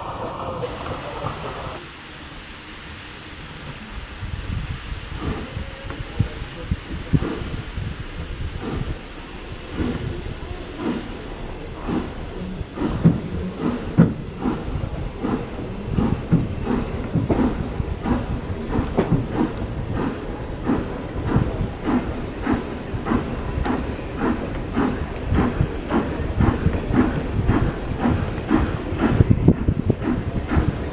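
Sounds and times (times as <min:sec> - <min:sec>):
steam locomotive chuffing: 0:00.0 - 0:30.9.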